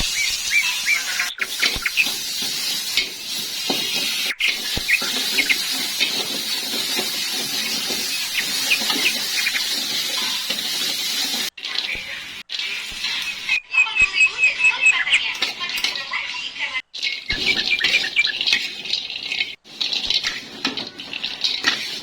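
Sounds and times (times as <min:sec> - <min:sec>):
oil sizzling and popping: 0:00.0 - 0:13.6, 0:15.3 - 0:22.0.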